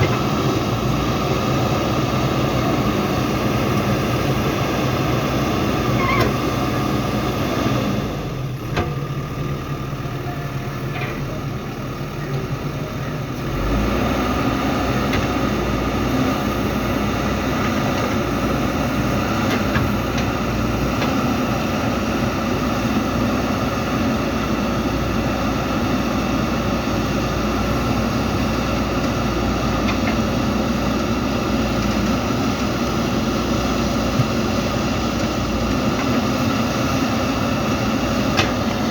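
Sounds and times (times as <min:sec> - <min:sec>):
backhoe diesel engine droning: 0:00.0 - 0:38.9.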